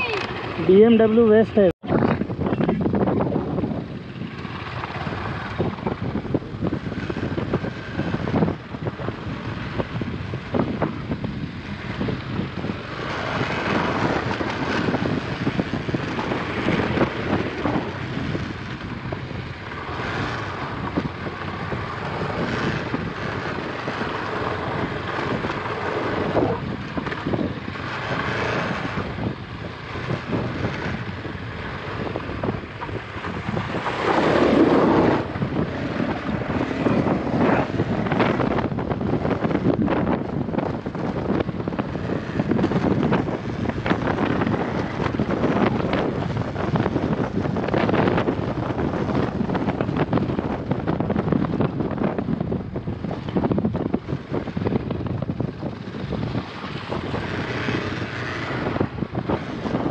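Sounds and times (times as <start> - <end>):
wind buffeting microphone: 0.0 - 59.9
motorcycle engine running: 1.9 - 59.9.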